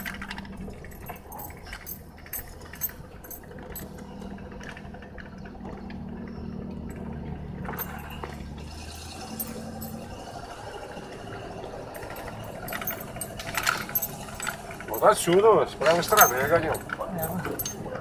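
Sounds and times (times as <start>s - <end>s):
light clicks and jangling rattles: 0.0s - 18.0s
truck engine running at low revs: 0.0s - 18.0s.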